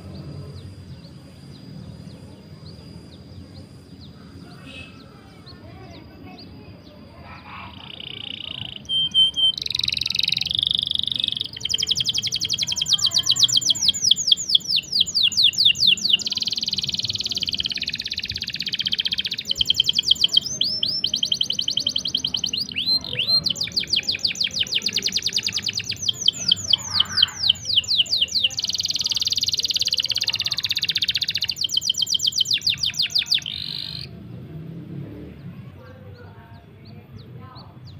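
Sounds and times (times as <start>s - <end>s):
songbird singing rolling trills: 0.0s - 37.9s.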